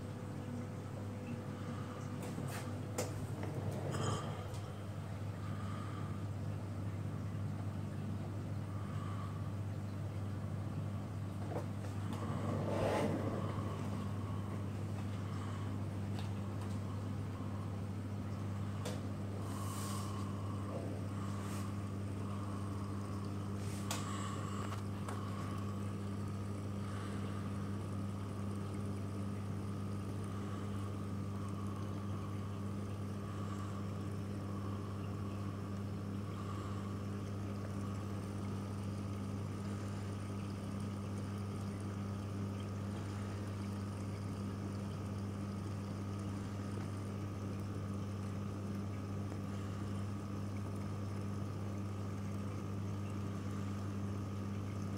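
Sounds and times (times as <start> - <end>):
aquarium pumps humming: 0.0 - 54.9.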